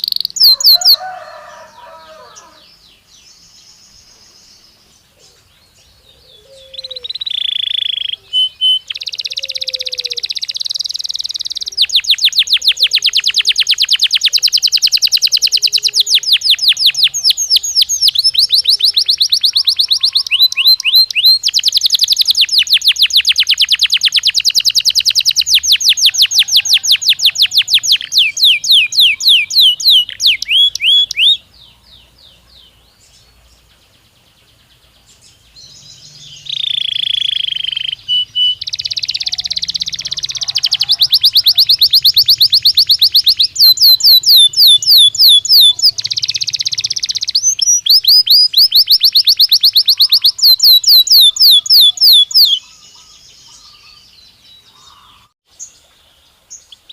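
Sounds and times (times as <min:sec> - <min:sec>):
canary singing in trills: 0:00.0 - 0:56.9.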